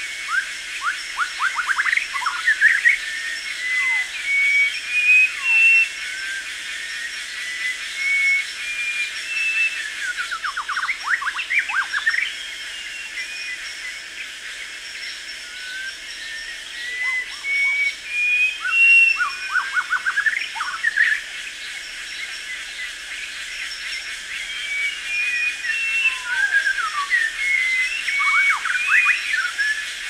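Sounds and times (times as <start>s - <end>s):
birds whistling: 0.0s - 14.1s, 15.5s - 21.2s, 23.7s - 30.0s.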